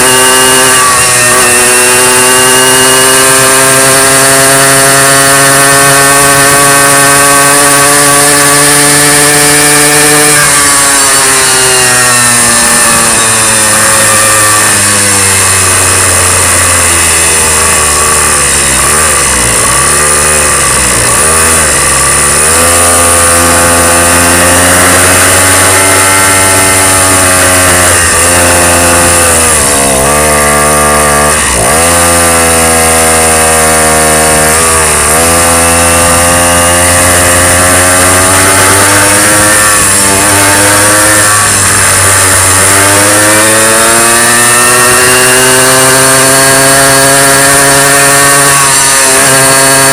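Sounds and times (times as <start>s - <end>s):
small motorcycle engine revving: 0.0s - 49.9s.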